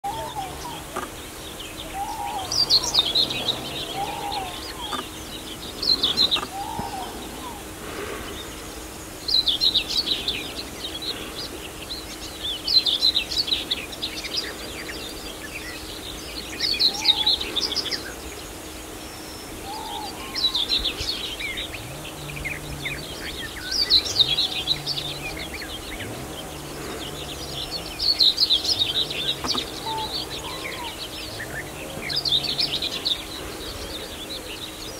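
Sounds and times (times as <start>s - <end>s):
soft bird calls: 0.0s - 34.9s
songbird singing rapid high song: 0.0s - 34.9s.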